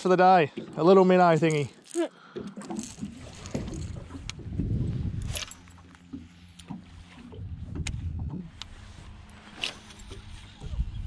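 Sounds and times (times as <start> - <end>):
water and wind around hull: 0.0 - 11.0.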